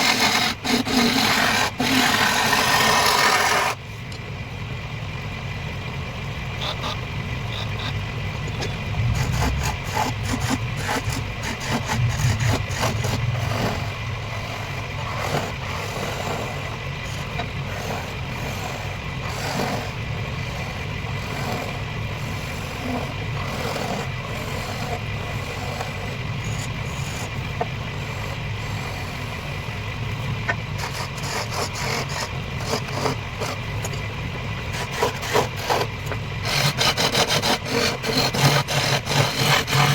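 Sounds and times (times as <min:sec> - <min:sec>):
cutting tool scraping wood: 0:00.0 - 0:03.8, 0:06.6 - 0:29.4, 0:30.5 - 0:34.1, 0:34.7 - 0:39.9
wood lathe whining: 0:00.0 - 0:03.8, 0:06.5 - 0:39.9.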